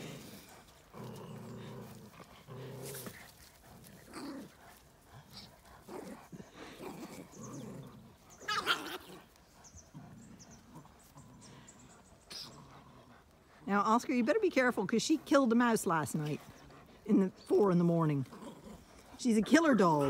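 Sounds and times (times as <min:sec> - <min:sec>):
small dogs growling in play: 0:00.0 - 0:13.7, 0:16.3 - 0:20.0.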